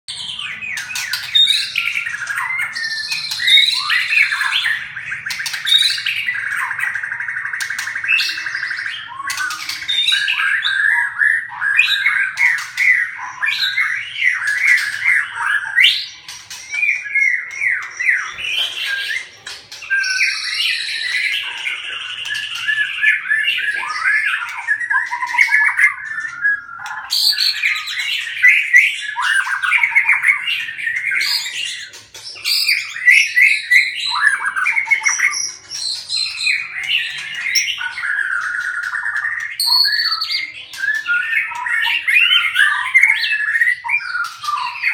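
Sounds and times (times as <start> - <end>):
birds squawking and chirping: 0.1 - 44.9.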